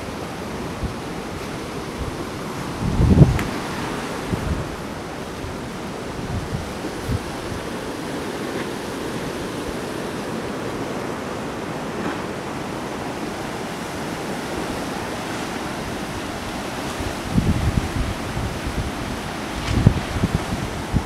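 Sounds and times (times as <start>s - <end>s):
surf breaking on rocks: 0.0s - 21.0s
wind buffeting microphone: 0.0s - 21.0s.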